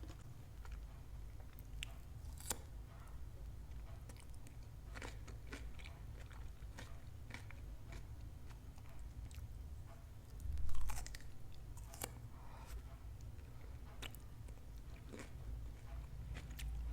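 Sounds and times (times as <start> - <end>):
chewing crunchy food: 0.0 - 2.8, 3.7 - 9.6, 10.3 - 16.9.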